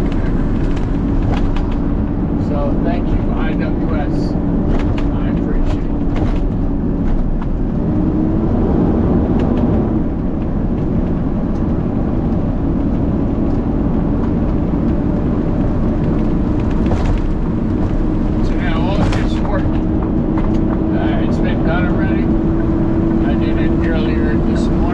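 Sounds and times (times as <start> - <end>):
diesel engine drone: 0.0 - 24.9
road rumble: 0.0 - 24.9.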